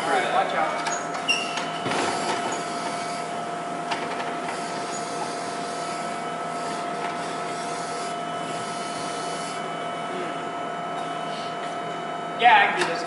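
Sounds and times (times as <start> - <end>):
machine hiss with constant whine: 0.0 - 13.0.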